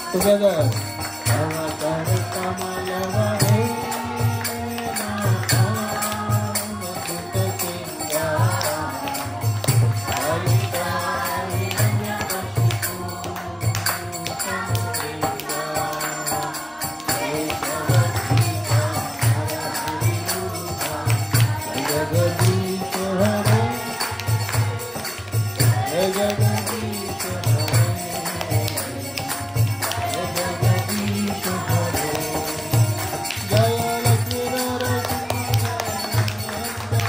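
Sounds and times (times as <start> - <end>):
harmonium chords: 0.0 - 37.0
man singing: 0.0 - 37.0
hands clapping: 0.6 - 37.0.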